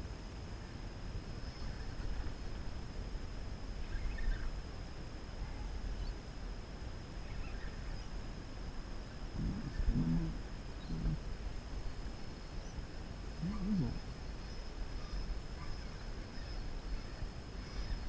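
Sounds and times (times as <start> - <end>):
faint high whine: 0.0 - 18.0
muffled low rumble and hiss: 0.0 - 18.0.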